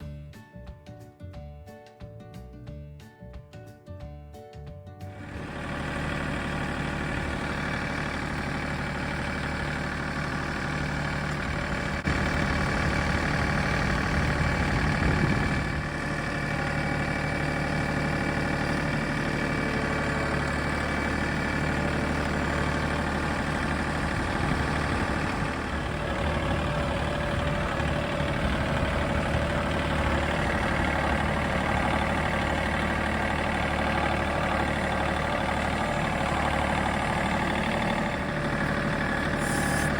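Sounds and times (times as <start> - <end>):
tractor diesel engine running: 5.1 - 39.9.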